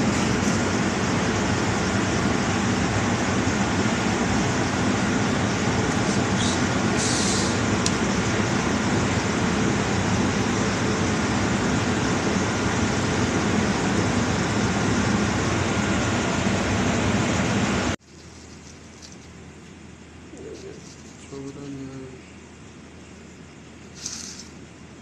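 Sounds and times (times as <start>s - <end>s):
machine hum and hiss: 0.0s - 25.0s.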